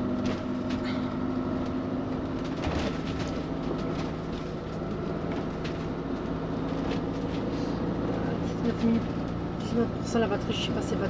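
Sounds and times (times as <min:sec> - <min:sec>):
engine and road drone: 0:00.0 - 0:11.0
rattles and clicks in cab: 0:00.0 - 0:11.0.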